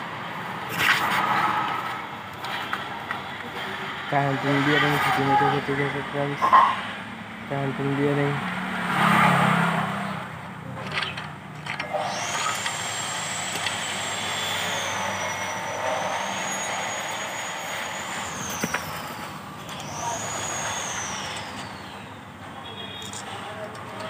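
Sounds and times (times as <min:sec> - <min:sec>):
high-pitched machine whine: 0:00.0 - 0:08.4, 0:11.0 - 0:24.0.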